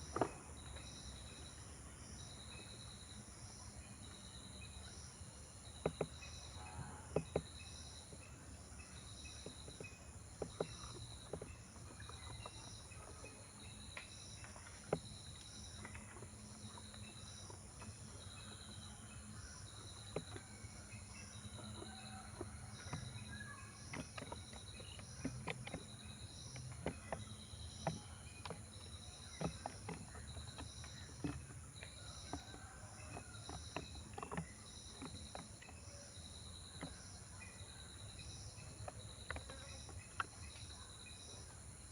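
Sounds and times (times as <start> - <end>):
cricket chirping: 0.0 - 41.9.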